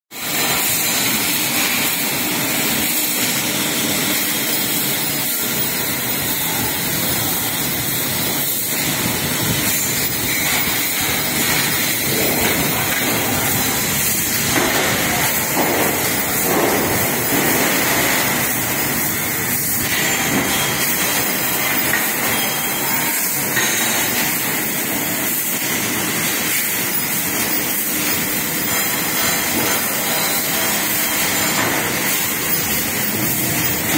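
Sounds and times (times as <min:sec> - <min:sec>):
press brake machine running: 0:00.2 - 0:33.9.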